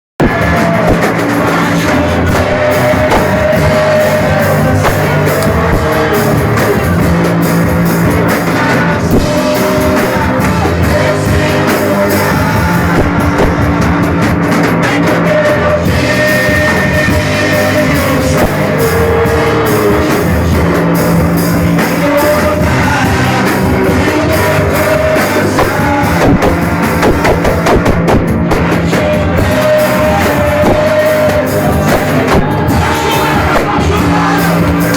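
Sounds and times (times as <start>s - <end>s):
loud rock band music: 0.2s - 34.9s.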